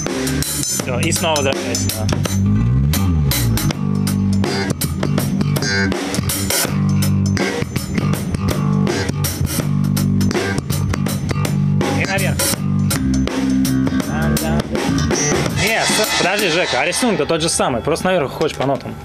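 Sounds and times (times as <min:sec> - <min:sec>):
electric bass riff: 0:00.0 - 0:18.5
drum kit: 0:00.0 - 0:19.0.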